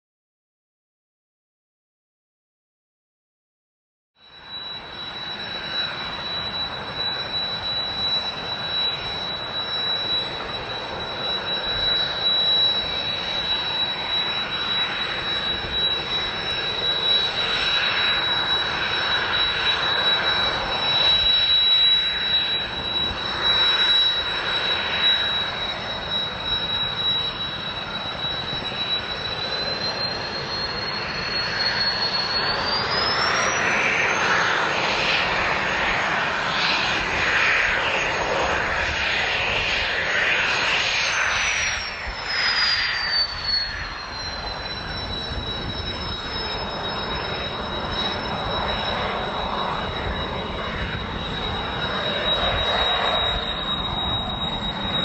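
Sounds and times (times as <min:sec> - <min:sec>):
jet engines roaring and whining: 0:04.2 - 0:55.0.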